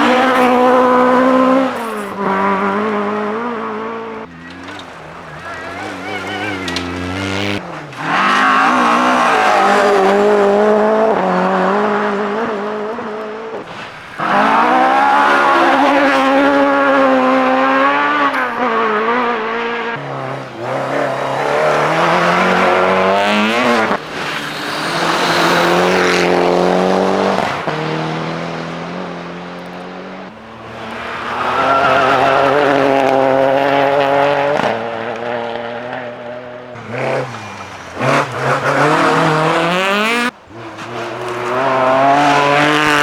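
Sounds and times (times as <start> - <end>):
rally car engine revving: 0.0 - 43.0.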